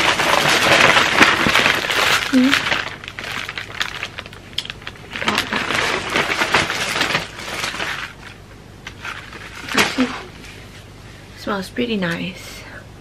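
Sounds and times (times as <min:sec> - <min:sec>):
dried flowers rustling and crackling: 0:00.0 - 0:10.7.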